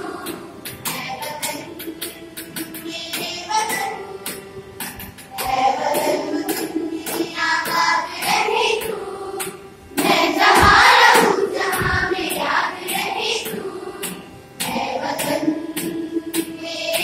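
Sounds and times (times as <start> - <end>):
girls singing together: 0.0 - 17.0.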